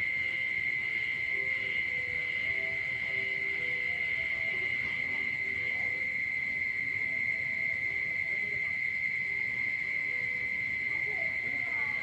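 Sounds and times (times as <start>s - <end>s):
high-pitched frog and insect drone: 0.0s - 12.0s.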